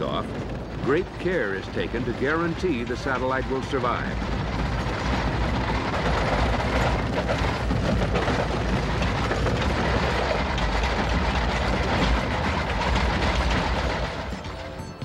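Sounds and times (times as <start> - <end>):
vibration test rig noise: 0.0 - 15.0.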